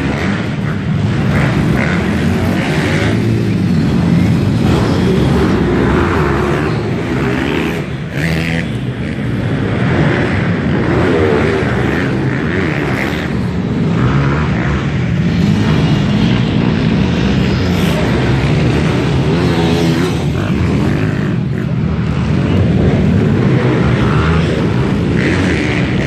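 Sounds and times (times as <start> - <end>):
motorbike engines revving: 0.0 - 26.0.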